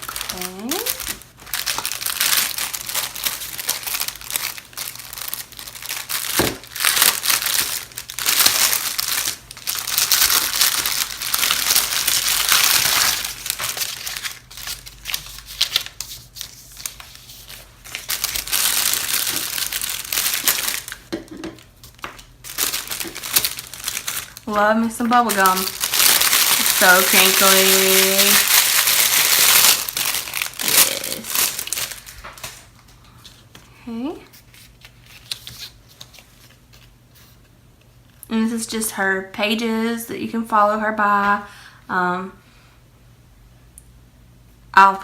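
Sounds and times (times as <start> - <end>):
crinkly packaging rustling: 0.0 - 37.6.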